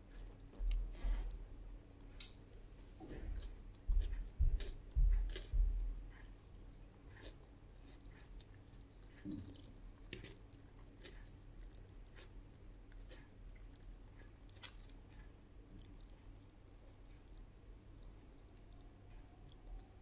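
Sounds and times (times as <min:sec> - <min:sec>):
close-up chewing: 0:00.0 - 0:02.4, 0:03.1 - 0:20.0.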